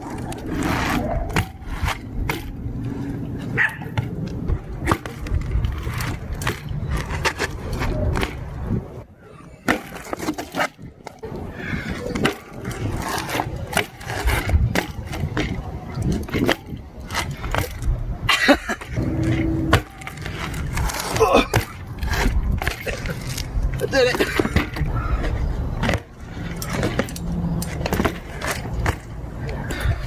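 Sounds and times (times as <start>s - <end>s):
bike hardware knocks and clatters: 0.0s - 8.8s, 12.0s - 30.0s
bike tyres rolling on hard ground: 0.0s - 30.0s.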